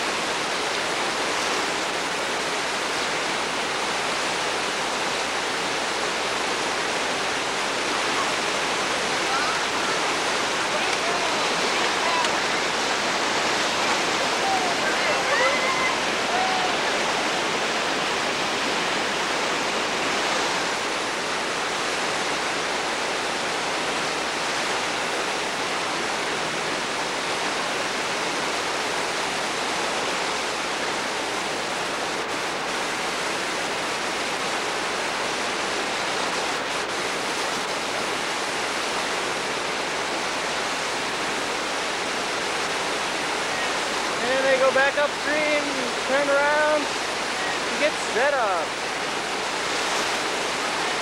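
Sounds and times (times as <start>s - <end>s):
river rapids rushing over boulders: 0.0s - 51.0s.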